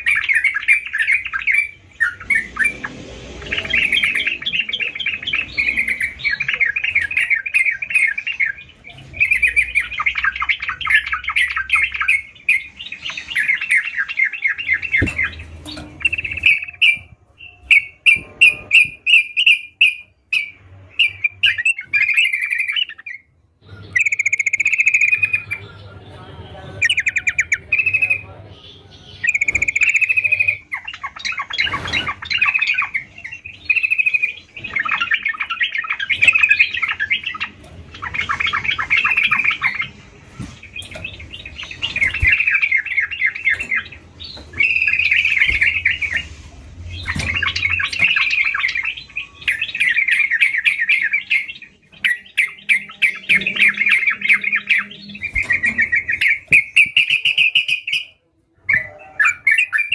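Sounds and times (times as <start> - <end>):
bird bubbly chattering song: 0.0 - 25.7, 29.2 - 59.9.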